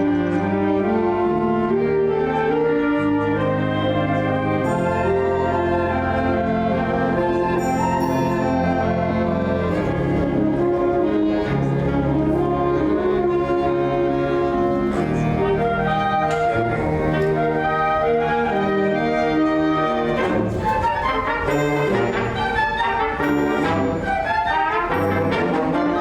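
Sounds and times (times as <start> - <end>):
orchestra with bowed strings: 0.0 - 26.0.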